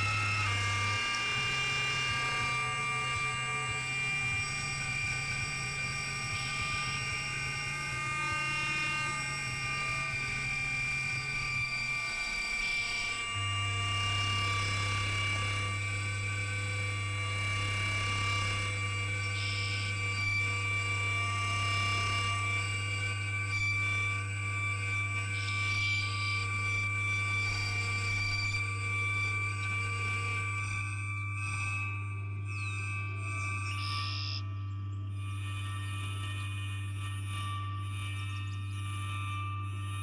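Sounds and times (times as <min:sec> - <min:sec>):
high electronic tones held: 0:00.0 - 0:40.0
low bass drone: 0:00.0 - 0:40.0.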